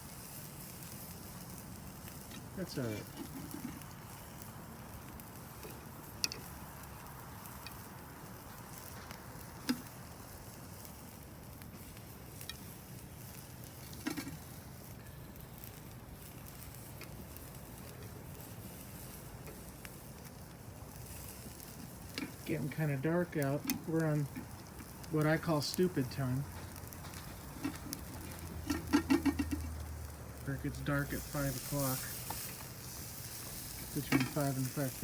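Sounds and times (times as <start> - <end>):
fire pops: 0.0 - 35.0
meat sizzling on a grill: 0.0 - 35.0.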